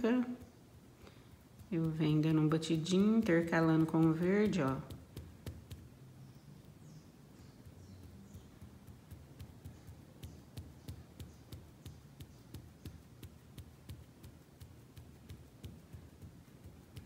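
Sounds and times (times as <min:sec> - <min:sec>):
faint low hum: 0:00.0 - 0:17.0
paintbrush tapping on fabric: 0:00.0 - 0:17.0.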